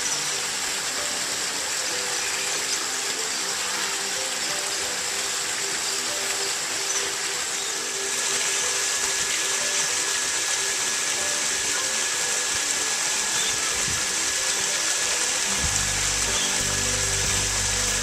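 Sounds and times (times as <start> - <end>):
quiet music: 0.0 - 18.0
running water rushing: 0.0 - 18.0.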